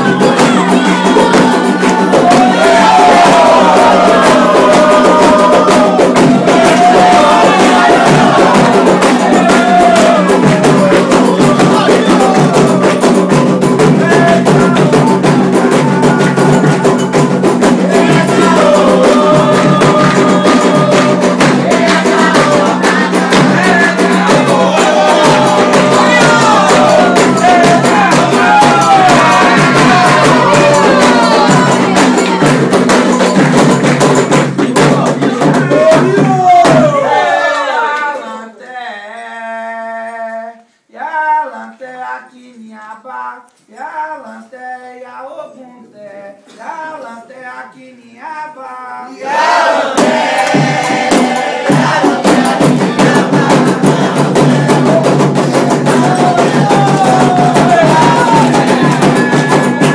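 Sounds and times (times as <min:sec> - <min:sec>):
hand drums beating: 0:00.0 - 0:37.4, 0:49.3 - 0:59.9
small percussion instrument: 0:00.0 - 0:46.0, 0:49.2 - 0:59.9
voices singing a chant: 0:00.0 - 0:59.9.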